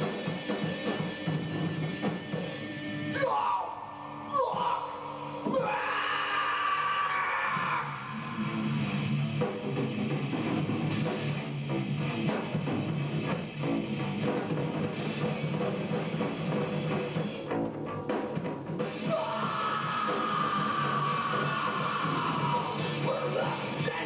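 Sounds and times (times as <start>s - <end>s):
drum kit: 0.0s - 3.3s, 7.5s - 24.0s
heavy rock band playing: 0.0s - 3.3s, 7.1s - 24.0s.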